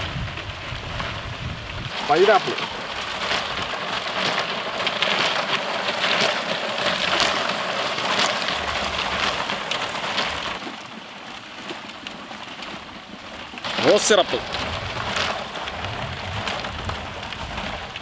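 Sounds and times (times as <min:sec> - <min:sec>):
fruit rasping on frozen drum: 0:00.0 - 0:18.0.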